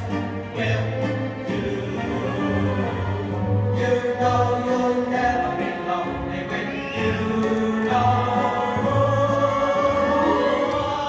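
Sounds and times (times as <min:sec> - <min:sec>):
choir singing held notes: 0:00.5 - 0:11.0.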